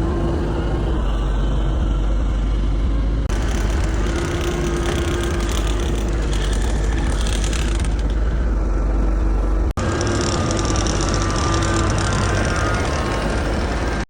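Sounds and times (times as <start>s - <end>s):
engine running: 0.0s - 14.0s
mechanical rattling and clanking: 0.6s - 14.0s.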